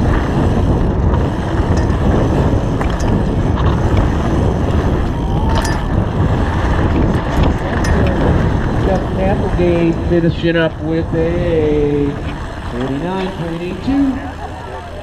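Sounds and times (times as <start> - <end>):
bicycle tyres on dirt: 0.0 - 15.0
bike clicks and rattles: 0.0 - 15.0
wind buffeting microphone: 0.0 - 15.0.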